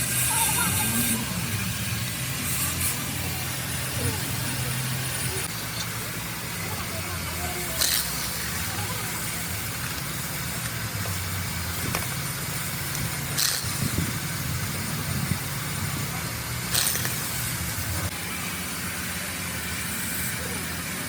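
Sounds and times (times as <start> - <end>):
hissing air bursts: 0.0 - 21.0
motor humming: 0.0 - 21.0.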